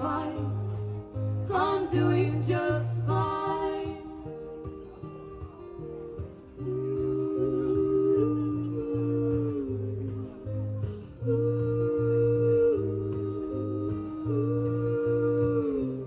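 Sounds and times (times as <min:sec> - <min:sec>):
acoustic guitar: 0:00.0 - 0:16.0
two voices singing in harmony: 0:00.0 - 0:16.0.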